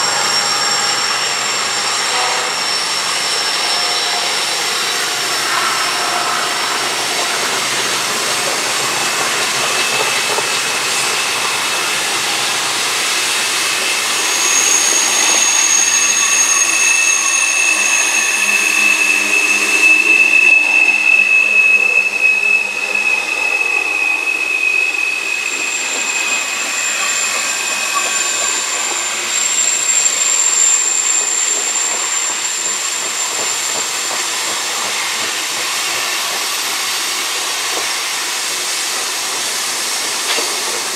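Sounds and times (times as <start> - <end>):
wheel flanges squealing: 0.0 - 38.0
train wheels rumbling on rails: 0.0 - 40.9.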